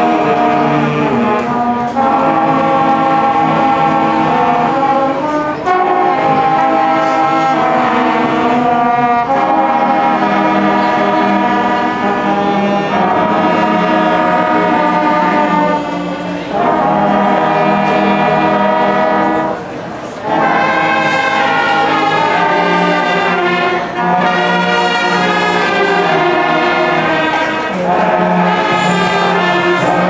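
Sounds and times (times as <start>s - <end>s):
brass sustained chords: 0.0s - 30.0s.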